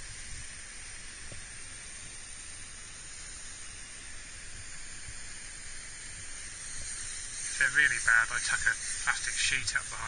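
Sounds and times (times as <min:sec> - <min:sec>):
hand sprayer hissing: 0:00.0 - 0:10.0.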